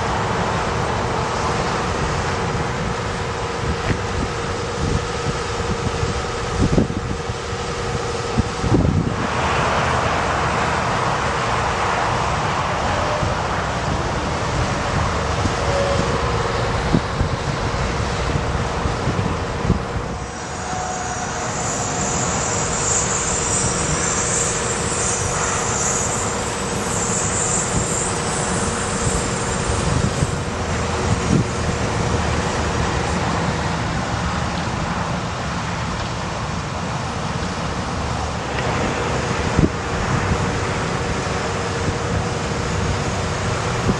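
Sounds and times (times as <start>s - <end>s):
high hiss: 0.0s - 35.9s
steady whine: 0.0s - 43.9s
truck engine running: 0.0s - 43.9s.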